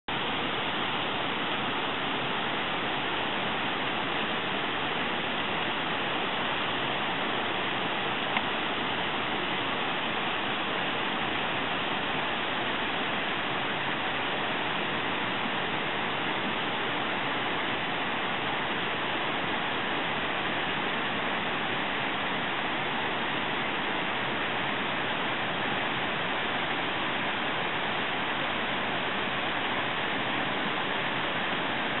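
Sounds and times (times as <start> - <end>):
waterfall rushing and splashing: 0.1 - 32.0.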